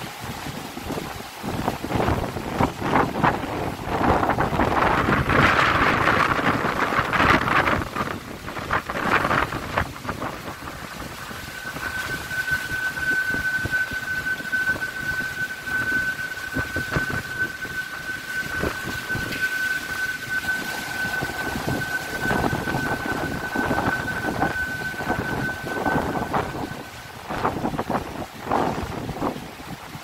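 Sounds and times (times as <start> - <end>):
gusting wind on microphone: 0.0 - 30.0
rain: 0.0 - 30.0
steady high whistle: 1.7 - 29.8.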